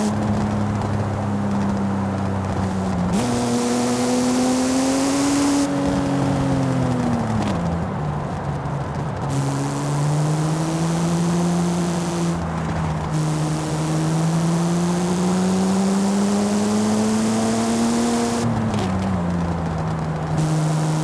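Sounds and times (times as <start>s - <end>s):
car engine accelerating: 0.0s - 21.0s
wind and road noise: 0.0s - 21.0s.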